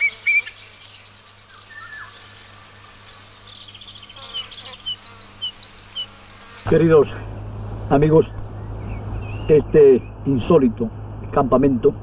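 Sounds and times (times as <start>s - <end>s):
small bird chirping: 0.0s - 11.4s
faint low hum: 0.0s - 12.0s.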